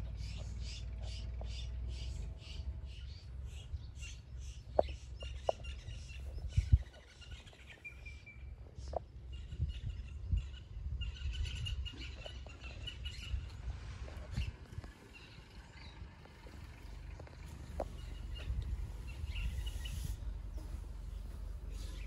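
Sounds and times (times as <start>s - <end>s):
birds chirping and calling: 0.0s - 22.0s
low background rumble: 0.0s - 22.0s.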